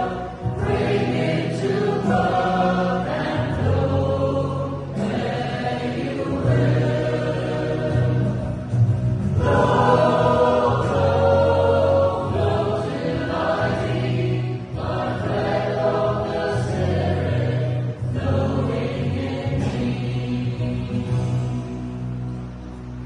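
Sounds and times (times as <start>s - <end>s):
choir singing a hymn: 0.0s - 22.4s.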